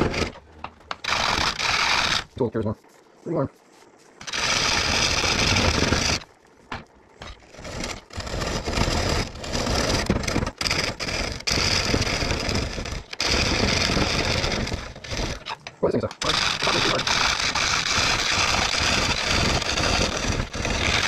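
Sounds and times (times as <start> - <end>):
gouge cutting wood on lathe: 0.0 - 2.4, 4.2 - 6.3, 7.2 - 21.0.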